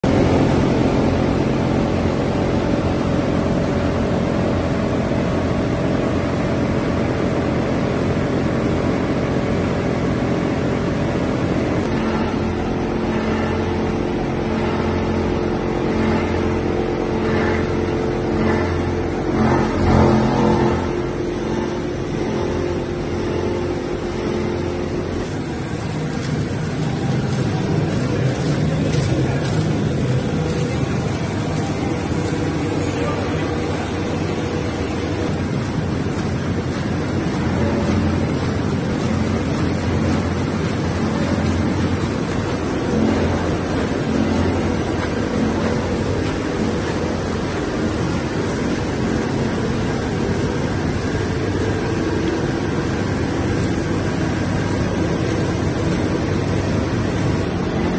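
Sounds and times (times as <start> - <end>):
motors and conveyor humming: 0.0 - 57.9.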